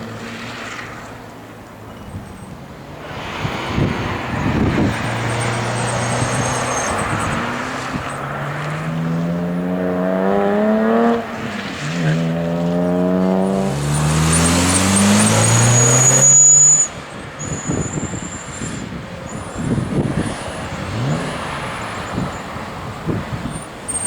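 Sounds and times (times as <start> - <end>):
car engine accelerating: 0.0 - 24.0
tyre and road noise: 0.0 - 24.0.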